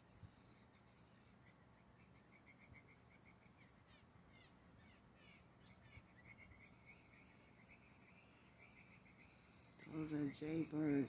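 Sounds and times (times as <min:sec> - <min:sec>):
faint blue jay calls: 0:00.0 - 0:11.0.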